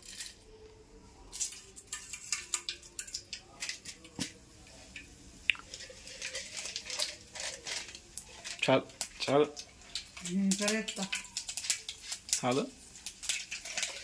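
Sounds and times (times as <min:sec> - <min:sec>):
seeds crackling in hot oil: 0:00.0 - 0:14.0.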